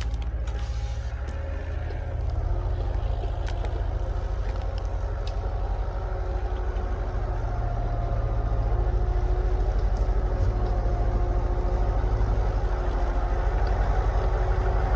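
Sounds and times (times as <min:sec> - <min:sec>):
faint engine whine: 0:00.0 - 0:14.9
truck engine rumbling: 0:00.0 - 0:14.9.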